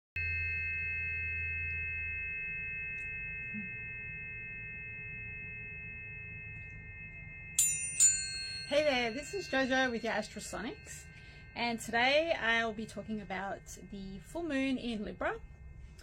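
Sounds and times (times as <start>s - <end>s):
low hum: 0.2s - 16.0s
tuning forks ringing: 0.2s - 16.0s.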